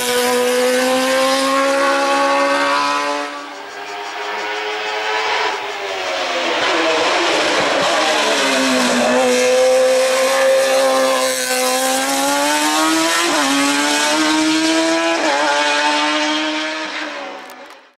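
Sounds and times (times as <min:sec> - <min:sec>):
race car engine at high revs: 0:00.0 - 0:18.0.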